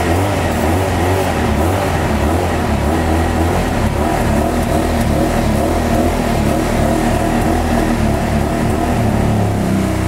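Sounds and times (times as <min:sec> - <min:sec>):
motorcycle engine revving and idling: 0:00.0 - 0:10.0.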